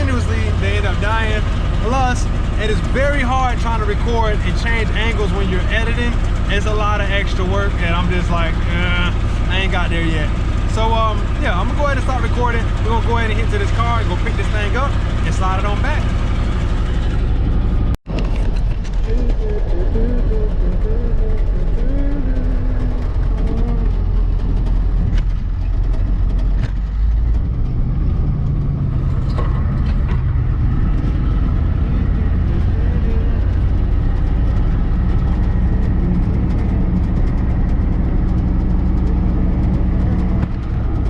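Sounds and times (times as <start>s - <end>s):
truck diesel engine running: 0.0s - 41.0s.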